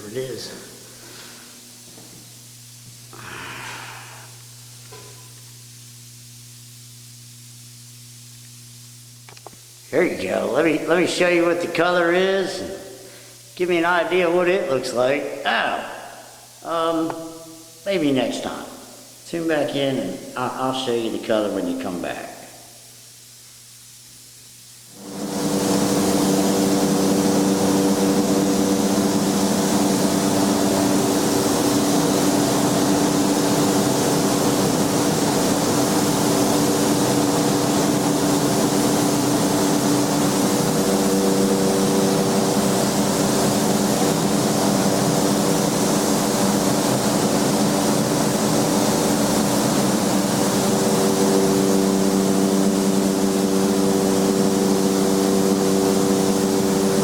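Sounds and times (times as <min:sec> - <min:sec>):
machine drone with hiss and hum: 0:00.0 - 0:57.0.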